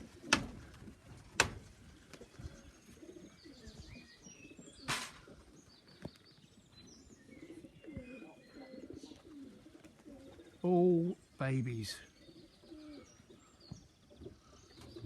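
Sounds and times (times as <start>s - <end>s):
pigeons cooing: 0.0s - 11.3s, 12.0s - 15.0s
small birds chirping: 0.0s - 15.0s.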